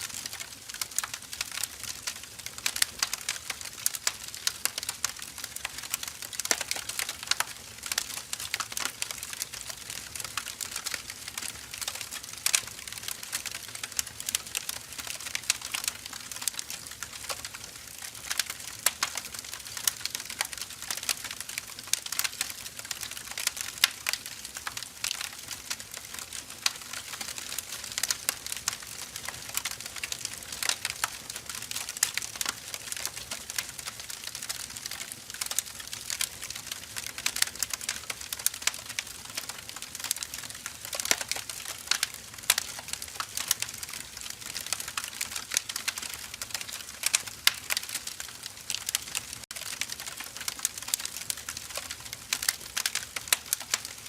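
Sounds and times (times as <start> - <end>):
firewood crackling: 0.0 - 54.0.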